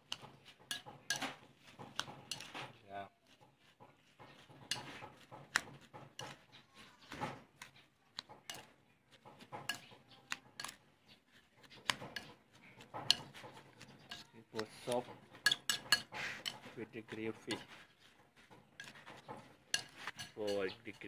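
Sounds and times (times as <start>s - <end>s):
metal spoon scraping a bowl: 0.0s - 21.0s
wet vegetables rustling: 0.0s - 21.0s.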